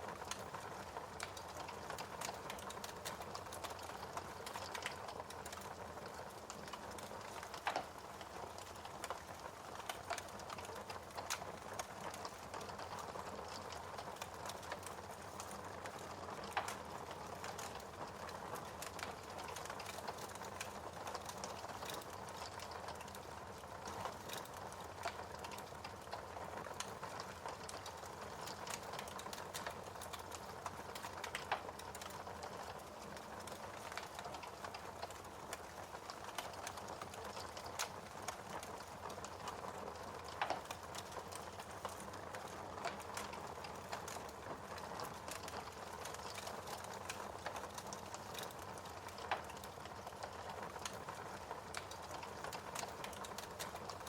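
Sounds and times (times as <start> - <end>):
wood fire crackling: 0.0 - 54.0
fire pops and snaps: 0.1 - 54.0.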